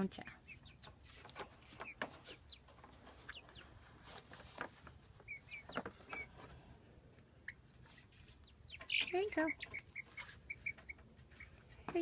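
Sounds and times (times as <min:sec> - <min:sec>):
chicks chirping softly: 0:00.0 - 0:12.0.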